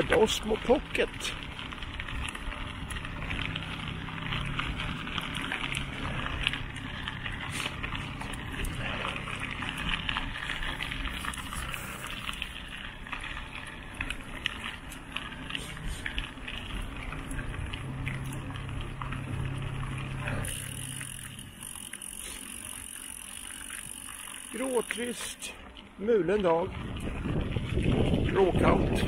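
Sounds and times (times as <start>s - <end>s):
bike clicks and rattles: 0.0s - 29.0s
bike tyres rolling on path: 0.0s - 29.0s.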